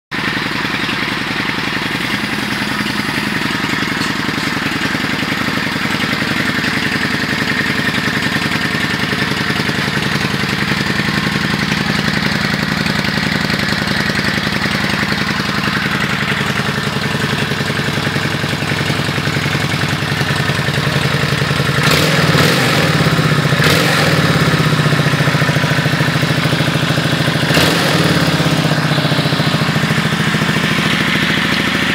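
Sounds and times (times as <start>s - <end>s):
motorcycle engine fast idle: 0.2s - 31.9s.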